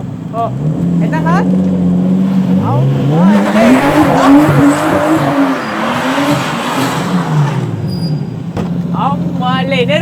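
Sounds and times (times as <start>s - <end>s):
car engine revving: 0.1s - 10.0s.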